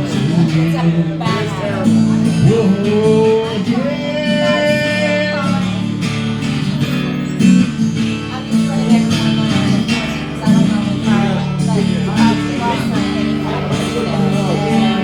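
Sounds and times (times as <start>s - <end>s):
steady bass: 0.0s - 15.0s
strummed acoustic guitar: 0.0s - 15.0s.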